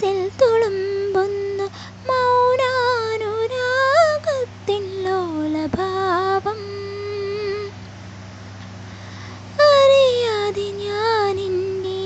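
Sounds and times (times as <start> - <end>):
woman singing unaccompanied: 0.0 - 7.8, 9.5 - 12.0.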